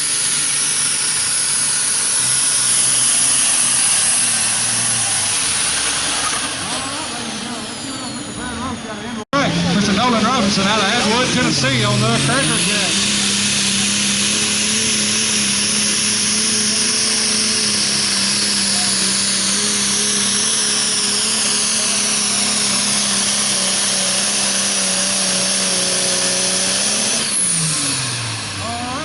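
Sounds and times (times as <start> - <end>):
tractor engine at full throttle: 0.0 - 29.0.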